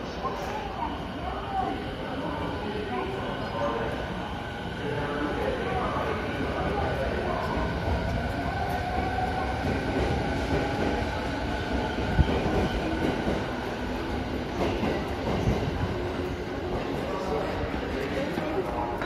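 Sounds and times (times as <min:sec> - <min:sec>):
train wheels rumbling on rail: 0:01.5 - 0:19.0.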